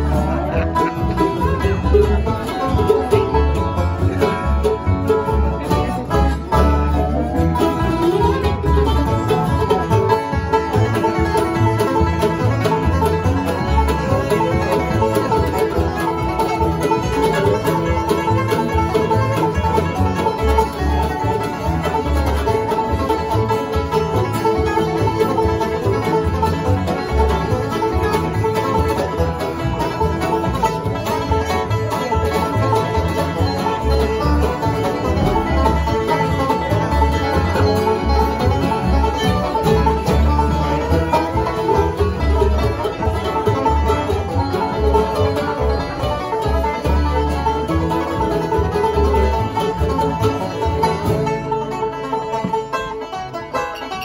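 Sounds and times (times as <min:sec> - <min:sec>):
acoustic guitar: 0:00.0 - 0:54.0
banjo rolls: 0:00.0 - 0:54.0
fiddle: 0:00.0 - 0:54.0
plucked double bass: 0:00.0 - 0:54.0.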